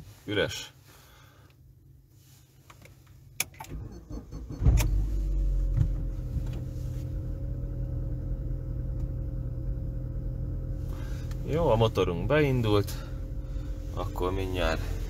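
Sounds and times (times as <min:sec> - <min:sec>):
car engine starting and idling: 0:00.5 - 0:15.0.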